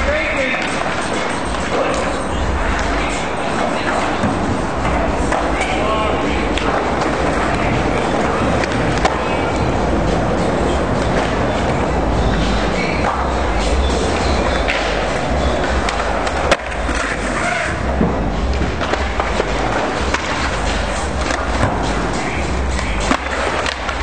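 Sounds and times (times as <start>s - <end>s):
skateboard clacks: 0.0s - 24.0s
skateboard wheels rolling: 0.0s - 24.0s.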